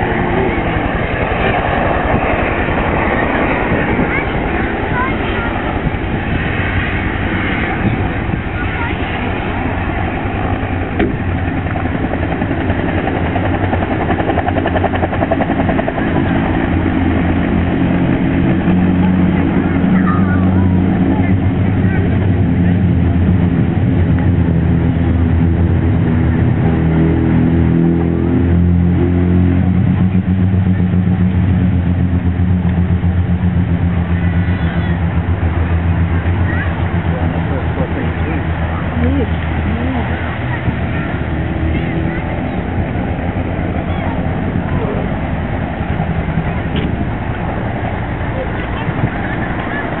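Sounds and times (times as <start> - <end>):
aircraft engine drone overhead: 0.0 - 50.0.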